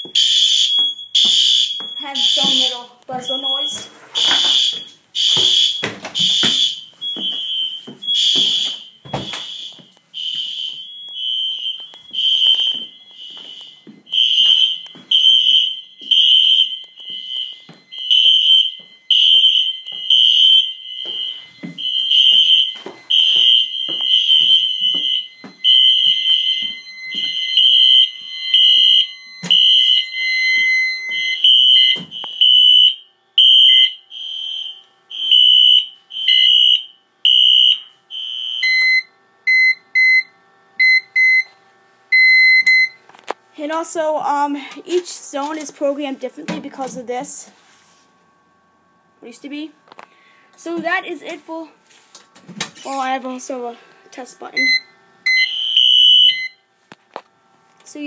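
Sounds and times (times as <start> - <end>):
fire alarm pulsing tone: 0.0 - 43.0, 52.8 - 56.7
lower steady alarm tone: 0.0 - 51.9, 52.8 - 56.8.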